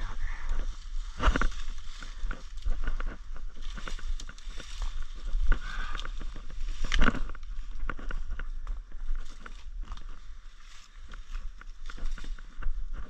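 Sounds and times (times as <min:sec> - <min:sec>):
dry leaves and twigs crackling: 0:00.0 - 0:13.0
loud branch crack: 0:00.1 - 0:13.0.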